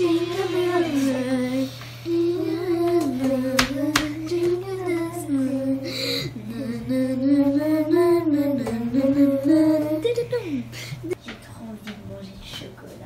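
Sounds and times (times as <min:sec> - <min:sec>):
person singing wordless tune: 0:00.0 - 0:10.7.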